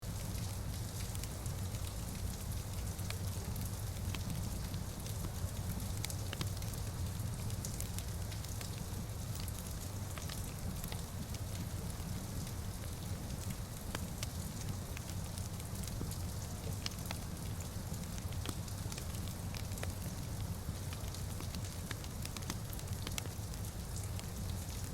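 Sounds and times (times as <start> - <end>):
rain hissing on windows: 0.0 - 24.9
wood fire crackling: 0.4 - 24.9.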